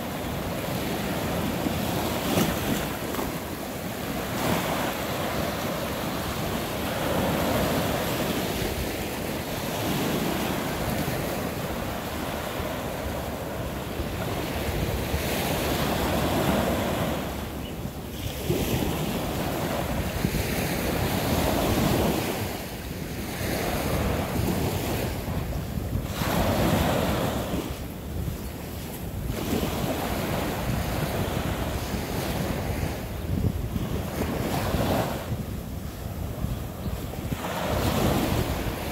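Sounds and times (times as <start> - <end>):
small waves washing ashore: 0.0 - 38.9
wind rumbling on microphone: 0.0 - 38.9.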